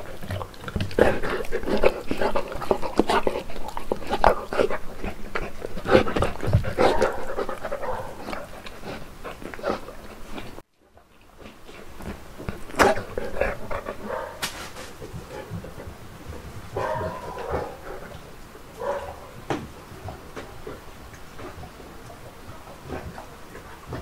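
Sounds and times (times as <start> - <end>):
dog panting: 0.0 - 10.6, 11.4 - 24.0
dog chewing and licking: 0.0 - 24.0.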